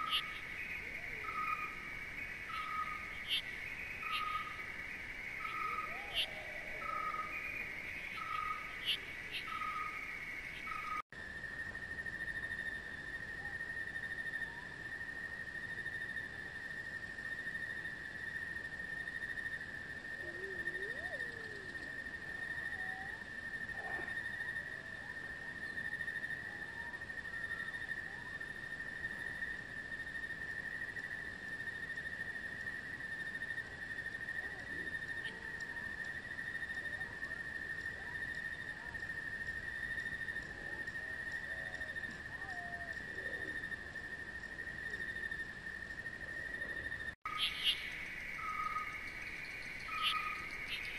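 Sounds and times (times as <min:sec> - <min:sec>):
faint insect chirps: 0:00.0 - 0:50.9
insects droning: 0:00.0 - 0:50.9
pulsing insect call: 0:00.0 - 0:50.9.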